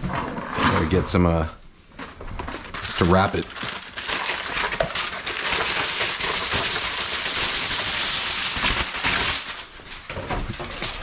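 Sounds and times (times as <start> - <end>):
aluminum foil crinkling: 1.8 - 11.0.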